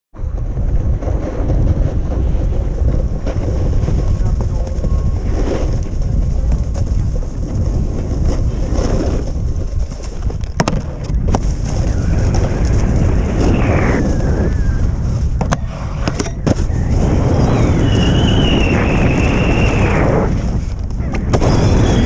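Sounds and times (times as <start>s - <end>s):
wind rumbling on microphone: 0.1s - 22.0s
snowboard scraping over snow: 0.2s - 22.0s.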